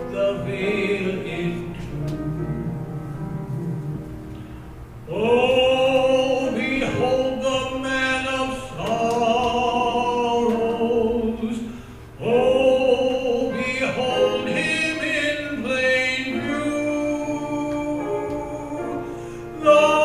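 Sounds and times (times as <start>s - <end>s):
man singing into microphone: 0.0s - 3.8s, 5.1s - 20.0s.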